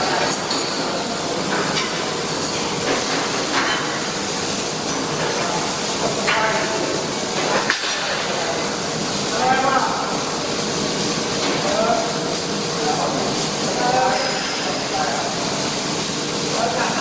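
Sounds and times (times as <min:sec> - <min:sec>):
arc welding crackle: 0:00.0 - 0:17.0.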